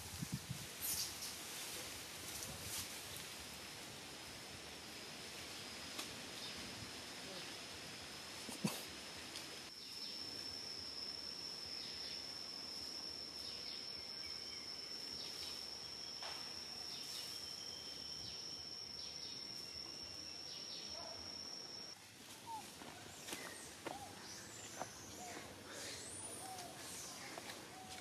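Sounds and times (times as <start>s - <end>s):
faint outdoor hiss: 0.0s - 28.0s
high-pitched insect call: 0.1s - 28.0s.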